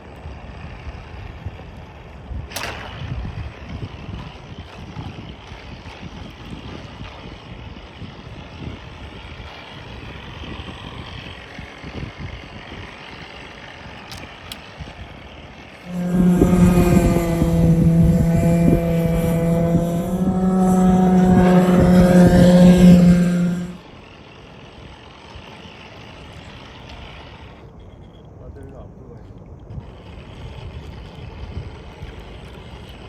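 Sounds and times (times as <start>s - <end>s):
model boat engine drone: 0.0s - 33.0s
wind: 0.0s - 33.0s.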